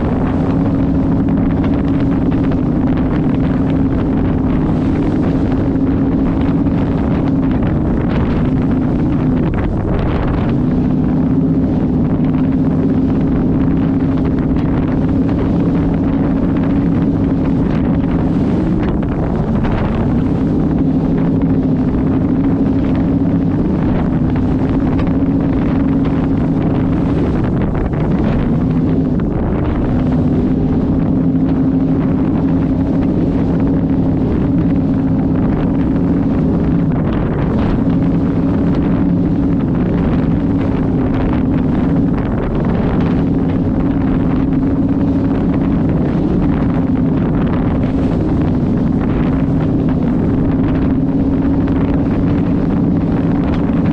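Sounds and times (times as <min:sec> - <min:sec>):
powerboat engines droning: 0:00.0 - 0:53.9
wind buffeting microphone: 0:00.0 - 0:53.9.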